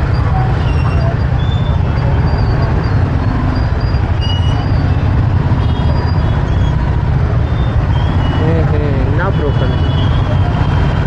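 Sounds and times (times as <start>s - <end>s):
motorbike engine and road noise: 0.0s - 11.0s.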